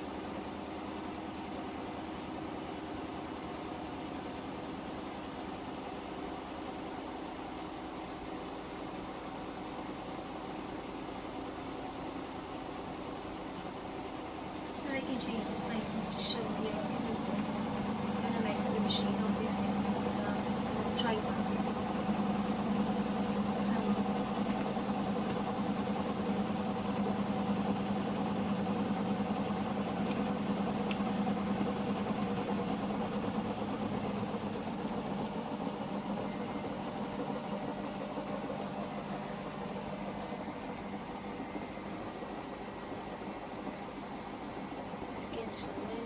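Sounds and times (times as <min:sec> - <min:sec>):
washing machine motor hum: 0:00.0 - 0:46.0.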